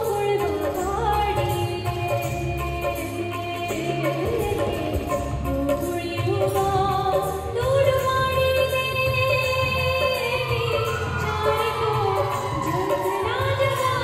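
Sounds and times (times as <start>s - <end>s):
instrumental accompaniment: 0.0s - 14.0s
woman singing folk song: 0.0s - 14.0s.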